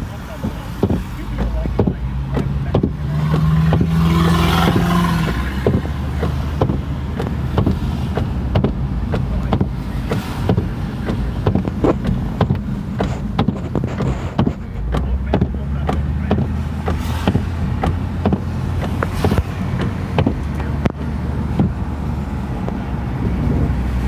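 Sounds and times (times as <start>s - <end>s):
car cabin rumble: 0.0s - 24.0s
rain tapping on windshield: 0.0s - 24.0s
vehicle hum: 0.0s - 24.0s.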